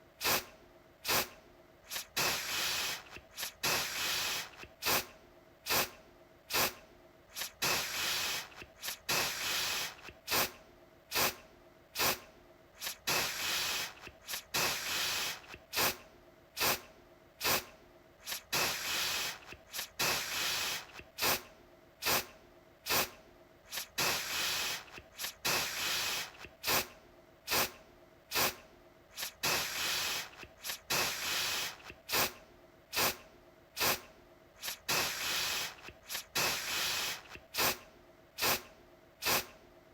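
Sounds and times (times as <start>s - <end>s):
aerosol spray hissing: 0.2s - 5.1s, 5.7s - 11.4s, 12.0s - 12.2s, 12.8s - 16.0s, 16.6s - 16.8s, 17.4s - 22.3s, 22.9s - 26.9s, 27.5s - 33.2s, 33.8s - 37.8s, 38.4s - 39.5s.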